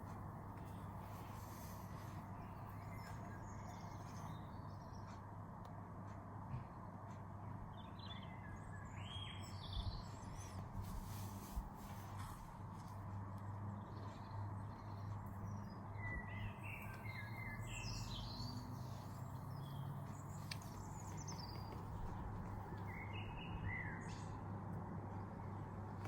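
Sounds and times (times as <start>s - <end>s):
small birds chirping: 0.0s - 5.5s, 6.6s - 26.0s.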